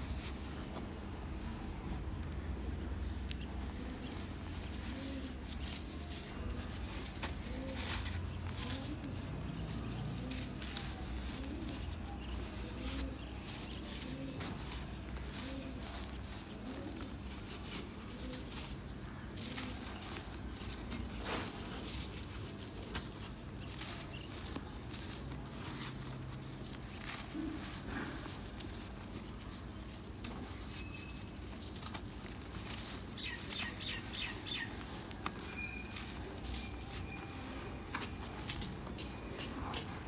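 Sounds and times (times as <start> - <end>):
hand crumbling dry dirt: 0.1 - 40.0
birds chirping: 2.6 - 28.8, 29.4 - 40.0.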